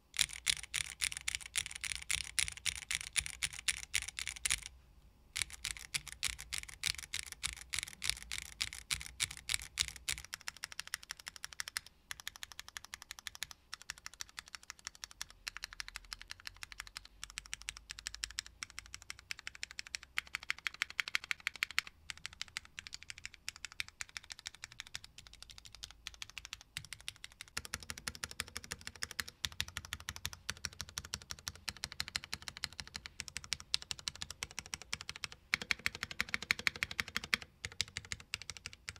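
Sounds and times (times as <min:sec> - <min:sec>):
mechanical keyboard typing: 0:00.2 - 0:04.7, 0:05.4 - 0:38.9.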